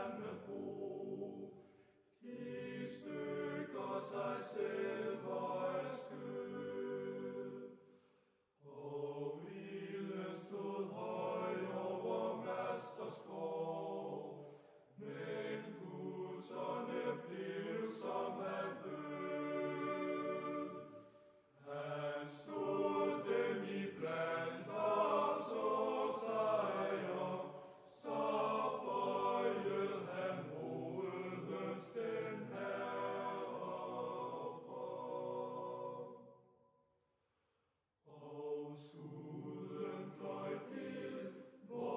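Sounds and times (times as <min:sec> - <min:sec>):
choral chant-like singing: 0:00.0 - 0:36.6, 0:38.0 - 0:41.9.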